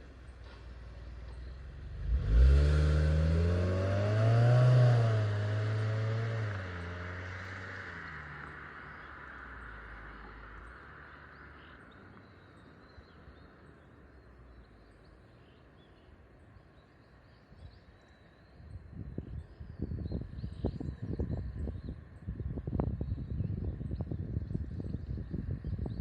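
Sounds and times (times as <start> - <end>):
faint birds or insects chirping: 0.0 - 26.0.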